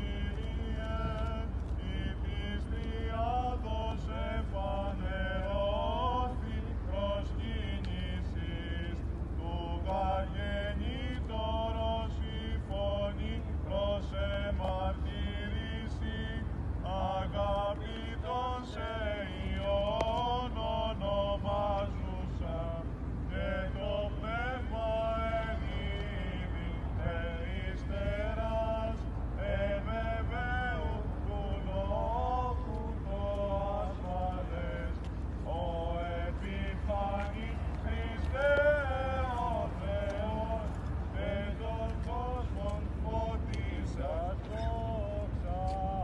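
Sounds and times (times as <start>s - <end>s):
clergy chanting a hymn: 0.0s - 46.0s
steady low rumble: 0.0s - 46.0s.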